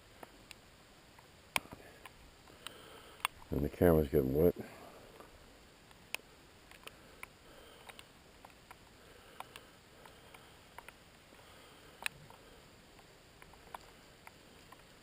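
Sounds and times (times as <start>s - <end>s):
light rain hiss: 0.0s - 15.0s.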